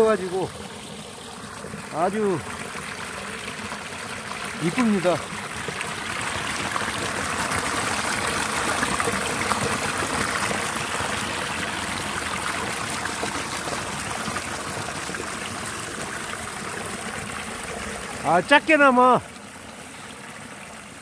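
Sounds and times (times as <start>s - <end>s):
stream splashing over rocks: 0.0s - 21.0s.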